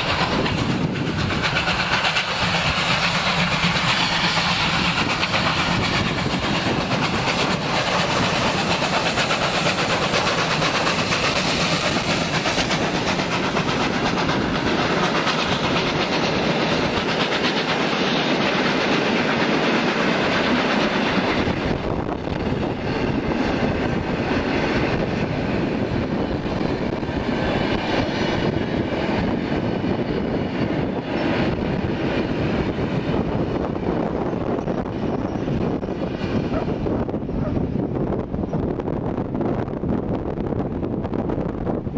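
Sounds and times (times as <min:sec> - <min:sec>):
train wheels clacking on rail joints: 0:00.0 - 0:37.7
steam locomotive exhaust: 0:00.0 - 0:39.8.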